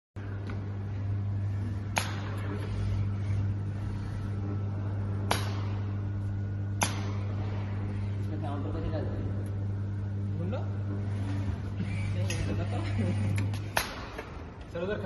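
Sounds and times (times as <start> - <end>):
workshop machinery hum: 0.2 - 15.0.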